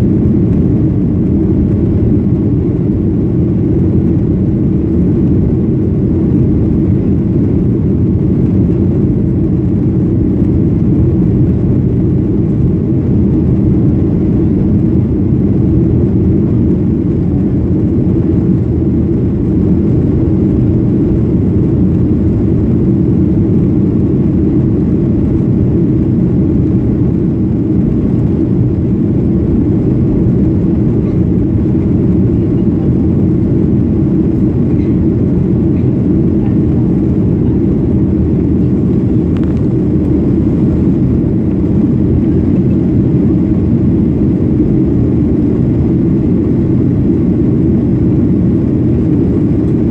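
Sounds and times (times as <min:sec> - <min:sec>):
airflow over fuselage: 0:00.0 - 0:49.9
jet engines rumbling in cabin: 0:00.0 - 0:49.9.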